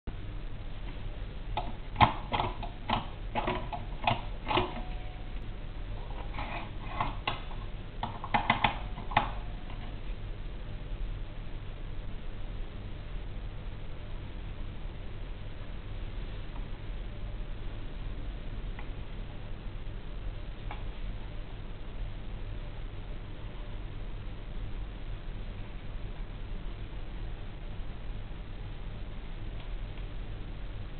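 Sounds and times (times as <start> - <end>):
low hum: 0.0 - 30.9.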